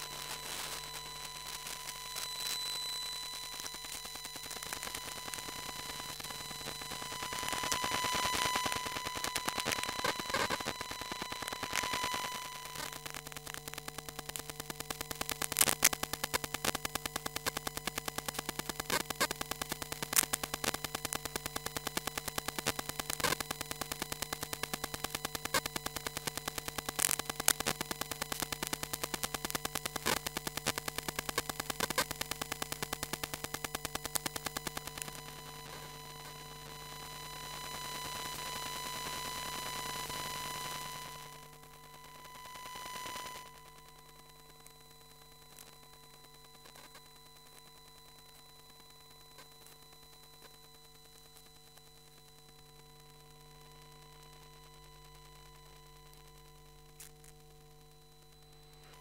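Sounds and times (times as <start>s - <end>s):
buzzing static: 0.0s - 59.0s
dense crackle of clicks: 0.0s - 59.0s.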